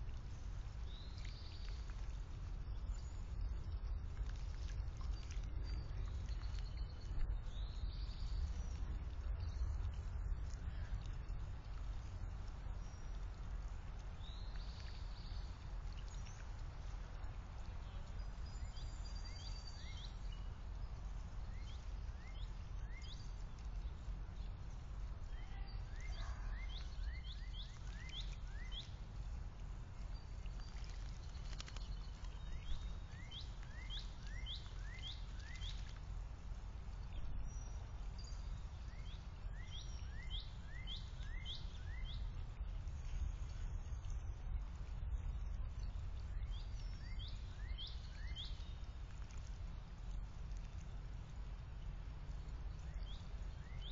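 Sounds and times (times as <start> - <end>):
low background rumble: 0.0 - 53.9
songbirds chirping: 0.0 - 53.9.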